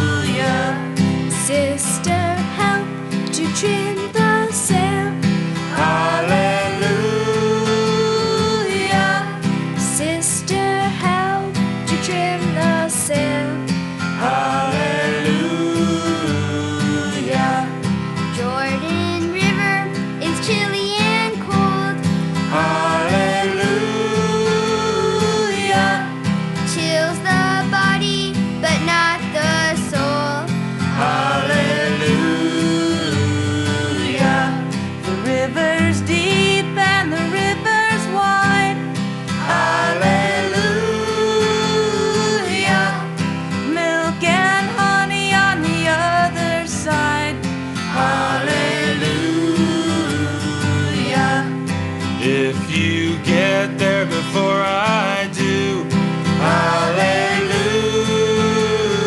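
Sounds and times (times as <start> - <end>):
folk melody: 0.0 - 59.0
strummed acoustic guitar: 0.0 - 59.0.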